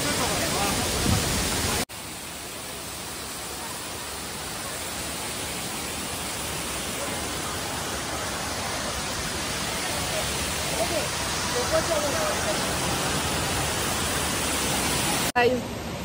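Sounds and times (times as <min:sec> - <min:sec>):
waterfall rushing water: 0:00.0 - 0:16.0.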